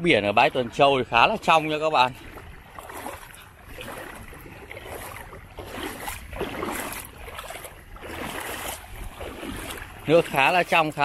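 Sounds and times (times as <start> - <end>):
gentle waves lapping on sand: 0.0 - 11.0.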